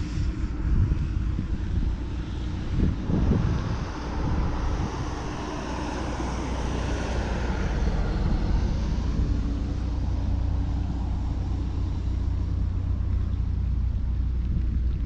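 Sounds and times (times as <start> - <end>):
faint steady hum: 0.0 - 15.0
steady low drone: 0.0 - 15.0
wind rumbling on microphone: 0.0 - 15.0.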